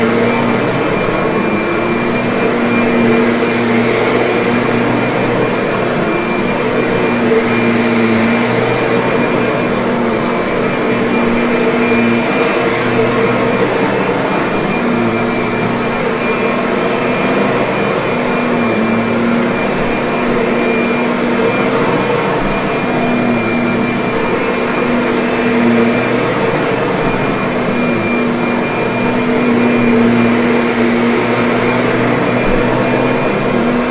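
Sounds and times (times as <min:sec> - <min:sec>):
upright vacuum cleaner running: 0:00.0 - 0:33.9.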